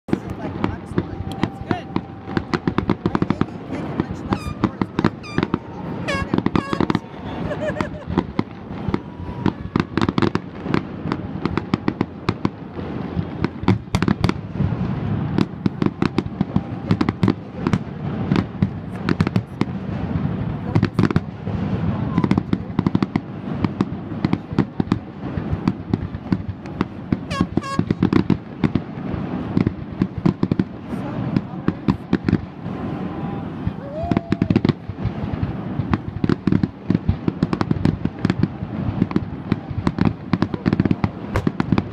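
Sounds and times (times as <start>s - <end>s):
fireworks bursting: 0.1s - 41.9s.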